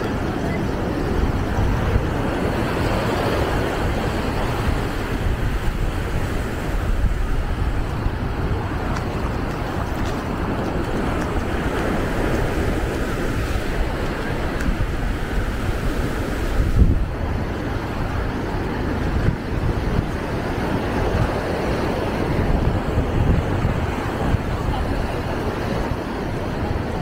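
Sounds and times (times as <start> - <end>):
surf breaking on shore: 0.0 - 27.0
wind buffeting microphone: 0.0 - 27.0.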